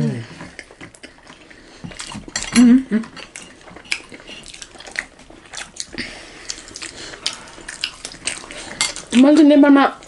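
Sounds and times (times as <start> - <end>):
wet chewing and smacking: 0.3 - 10.0.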